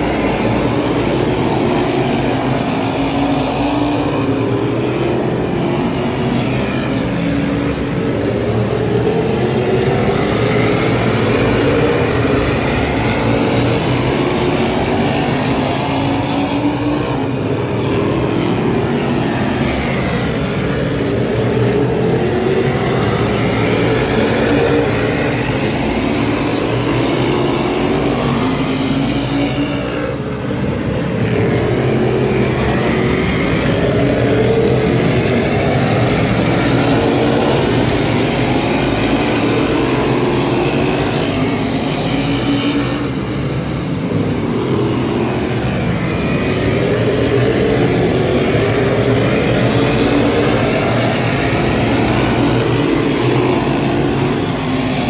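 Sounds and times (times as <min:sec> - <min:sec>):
race car engines on track: 0:00.0 - 0:55.0.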